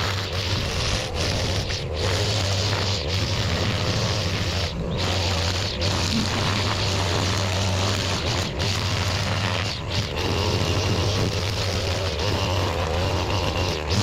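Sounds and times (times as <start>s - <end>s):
small gas engine running: 0.0s - 14.0s.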